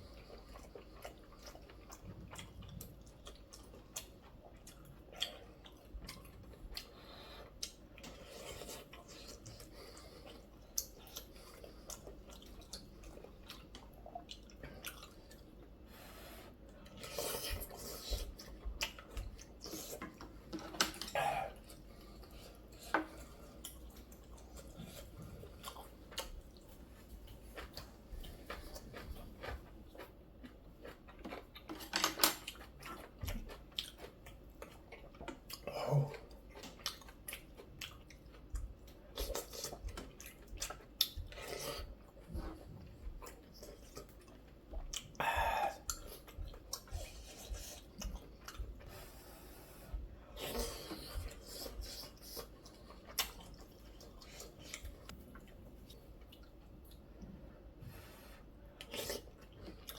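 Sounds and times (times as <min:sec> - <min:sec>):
chewing: 0:00.0 - 0:59.9.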